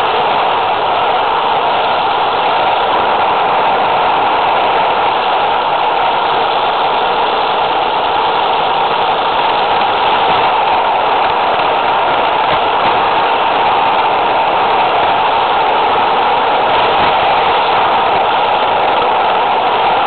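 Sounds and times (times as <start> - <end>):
model train rattling on track: 0.0 - 20.0.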